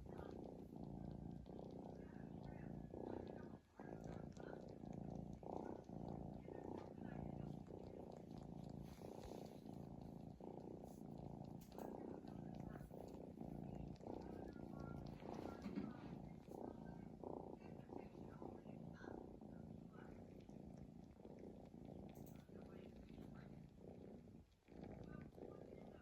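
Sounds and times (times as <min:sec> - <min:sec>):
cat snoring: 0:00.0 - 0:26.0.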